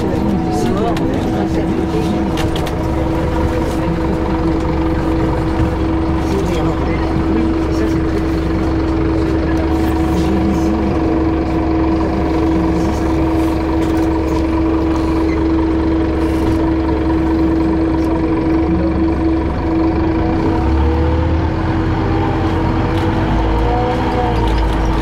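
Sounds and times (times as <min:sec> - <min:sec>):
bus engine humming: 0:00.0 - 0:25.0
constant whine: 0:00.0 - 0:25.0
low road rumble: 0:00.0 - 0:25.0.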